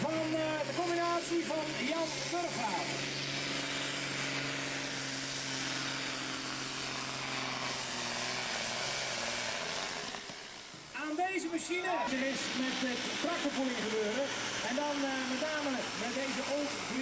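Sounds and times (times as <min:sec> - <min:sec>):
machine engine humming: 0:00.0 - 0:17.0.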